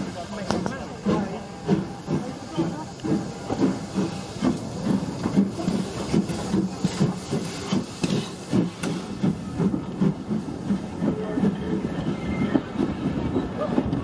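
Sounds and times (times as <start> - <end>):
steam hissing: 0.0 - 13.9.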